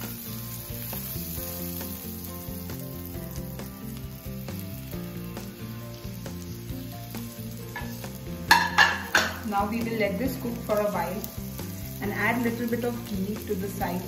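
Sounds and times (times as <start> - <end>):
background music with bass line: 0.0 - 14.0
ghee sizzling in a pan: 0.0 - 14.0.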